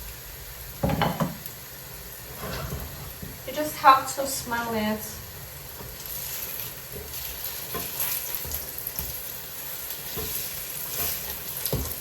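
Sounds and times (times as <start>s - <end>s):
pancakes sizzling in oil: 0.0s - 12.0s.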